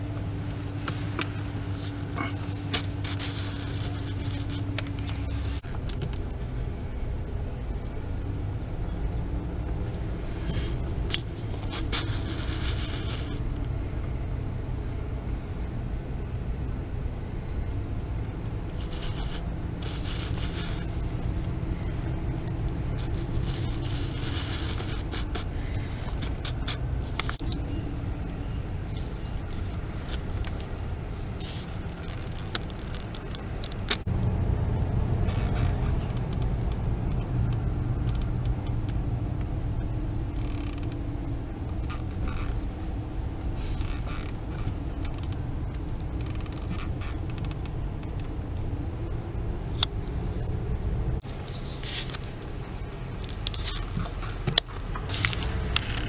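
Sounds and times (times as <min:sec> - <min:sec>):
car engine and road rumble: 0:00.0 - 0:56.0
light creaks and ticks: 0:00.1 - 0:06.5, 0:08.9 - 0:13.8, 0:18.6 - 0:56.0.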